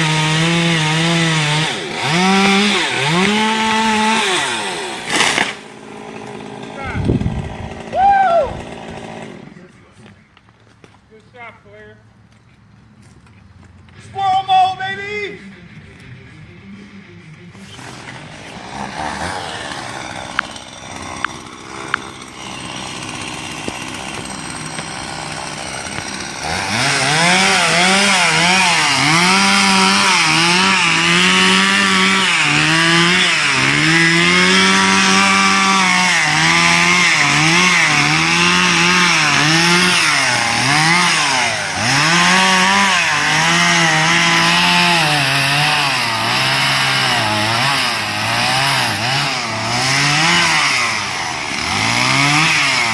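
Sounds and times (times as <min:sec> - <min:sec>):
chainsaw cutting wood: 0:00.0 - 0:10.2, 0:17.6 - 0:52.9.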